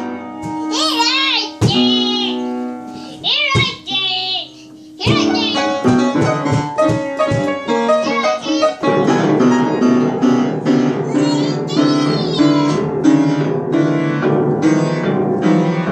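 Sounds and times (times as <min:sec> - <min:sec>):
piano keys banged at random: 0:00.0 - 0:15.9.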